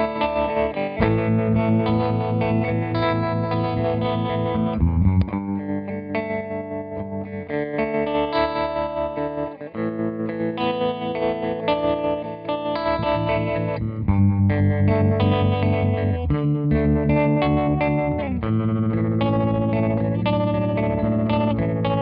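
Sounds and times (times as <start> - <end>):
electric guitar tremolo chords: 0.0 - 22.0.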